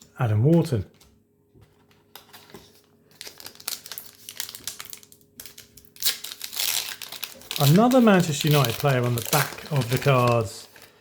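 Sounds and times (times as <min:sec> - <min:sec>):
card pack wrapper crinkling and tearing: 0:02.1 - 0:11.0.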